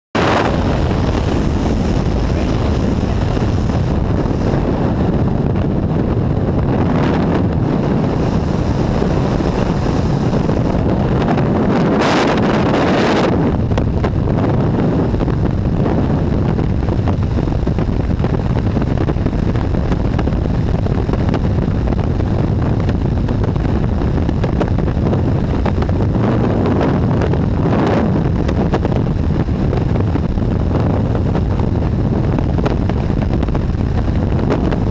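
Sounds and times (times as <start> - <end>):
wind buffeting microphone: 0.2 - 34.9.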